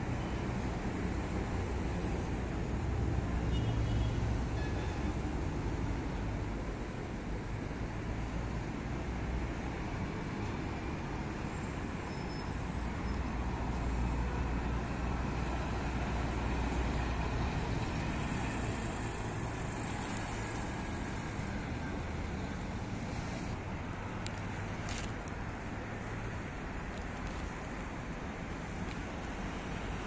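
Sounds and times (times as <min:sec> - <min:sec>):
road traffic: 0:00.0 - 0:30.0.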